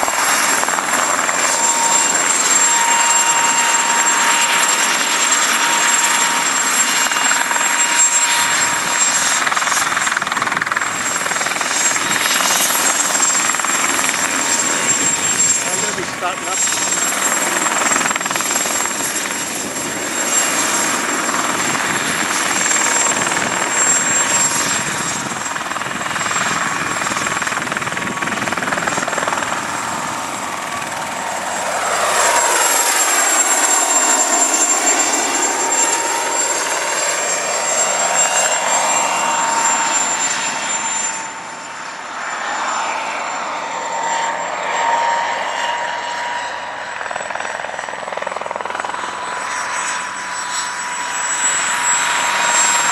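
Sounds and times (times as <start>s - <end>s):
helicopter engine and rotor whine: 0.0s - 52.9s.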